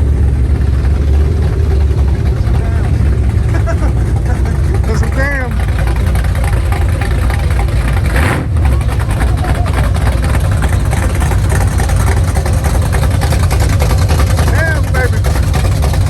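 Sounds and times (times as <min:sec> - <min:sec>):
car engine low exhaust rumble: 0:00.0 - 0:16.0.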